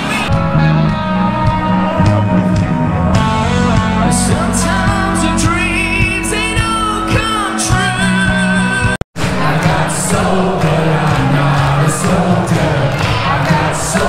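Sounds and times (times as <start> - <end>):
electric guitar: 0.0 - 14.0
live rock band playing: 0.0 - 14.0
person singing: 0.0 - 14.0.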